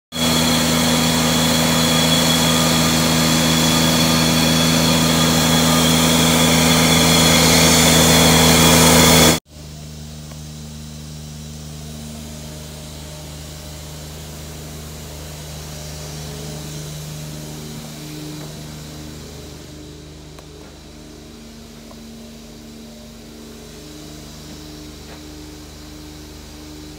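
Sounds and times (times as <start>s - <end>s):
engine and vacuum blower drone: 0.1s - 26.9s
high whine: 0.1s - 26.9s.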